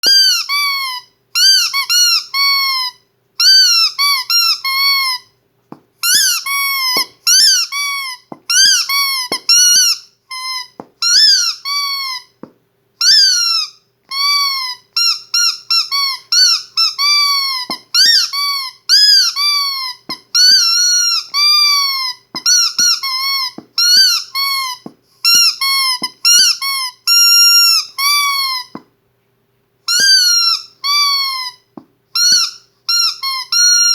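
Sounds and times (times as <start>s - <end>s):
squeaky dog toy squeaking: 0.0s - 28.9s, 29.9s - 33.9s.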